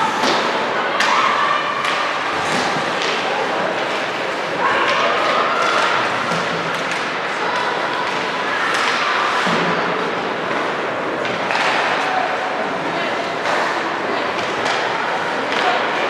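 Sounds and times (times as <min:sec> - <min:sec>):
murmur of crowd and voices: 0:00.0 - 0:16.0.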